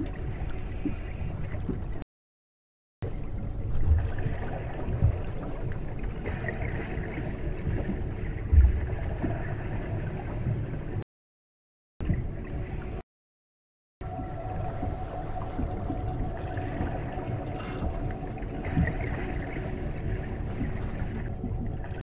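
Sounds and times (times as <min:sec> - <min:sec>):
low rumbling water: 0:00.0 - 0:02.0, 0:03.0 - 0:11.0, 0:12.0 - 0:13.0, 0:14.0 - 0:22.0.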